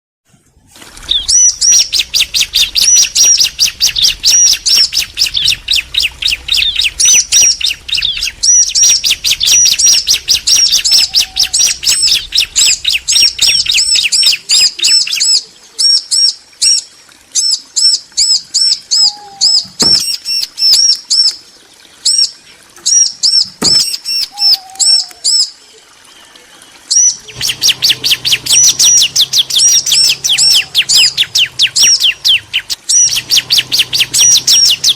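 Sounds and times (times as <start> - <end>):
birds chirping rapidly: 1.0 - 34.9.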